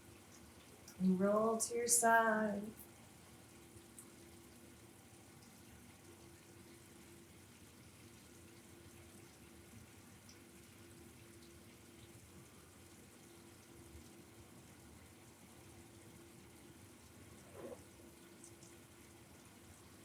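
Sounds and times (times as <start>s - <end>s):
faint room hiss: 0.0s - 20.0s
low steady hum: 0.0s - 20.0s.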